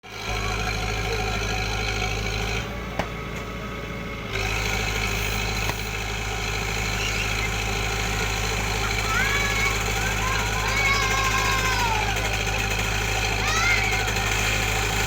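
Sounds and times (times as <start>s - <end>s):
heavy machine engine idling: 0.0s - 15.0s.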